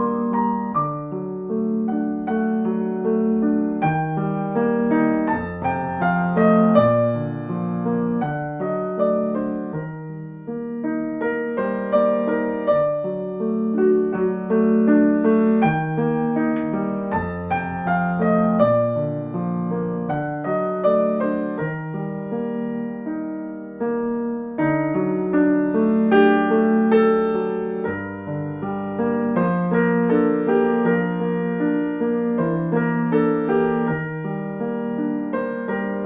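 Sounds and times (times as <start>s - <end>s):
slow solo piano music: 0.0s - 36.0s.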